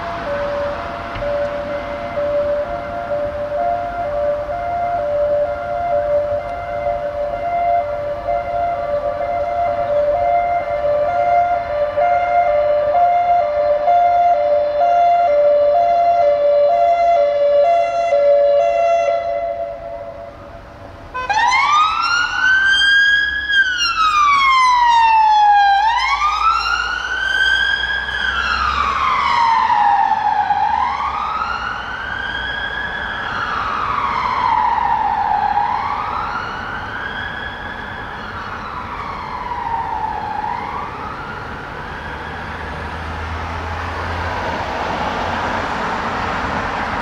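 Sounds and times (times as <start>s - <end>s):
two-tone police siren: 0.0s - 47.0s
wailing police siren: 0.0s - 47.0s.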